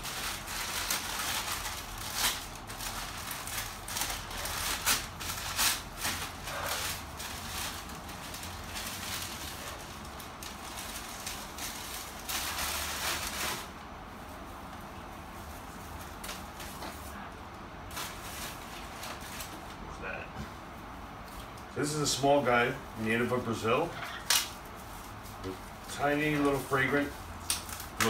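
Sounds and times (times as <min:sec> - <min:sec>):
wrapping rustling and crinkling: 0:00.0 - 0:20.0, 0:20.6 - 0:28.0.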